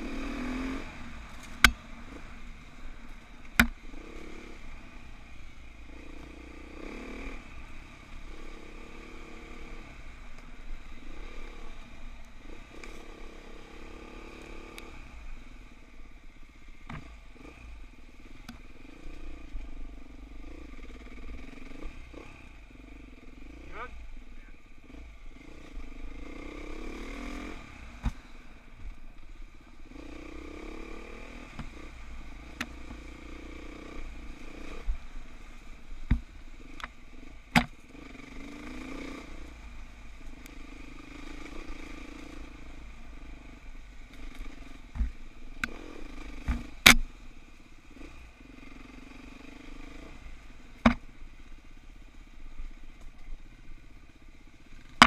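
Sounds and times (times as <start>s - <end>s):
dirt bike engine revving: 0.0s - 15.5s, 16.9s - 28.6s, 29.8s - 51.1s.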